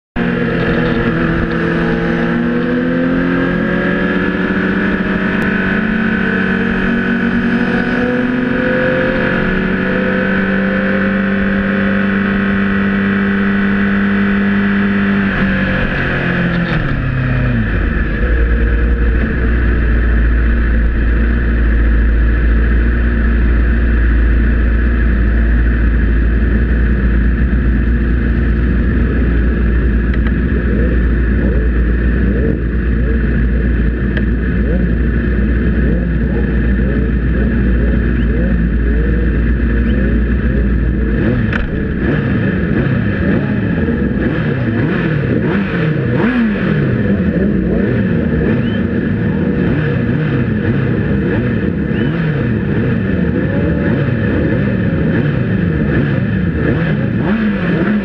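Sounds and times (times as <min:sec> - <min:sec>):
motorcycle engine running: 0:00.2 - 0:58.0.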